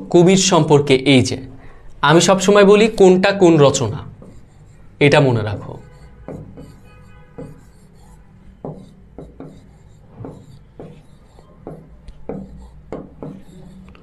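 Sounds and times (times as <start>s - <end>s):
marker writing on board: 2.2s - 14.0s.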